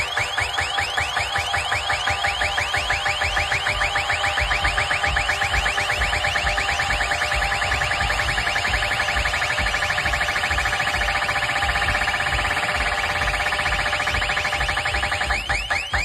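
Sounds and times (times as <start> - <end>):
electronic siren warble: 0.0 - 16.0
pulsing bass beat: 0.0 - 16.0.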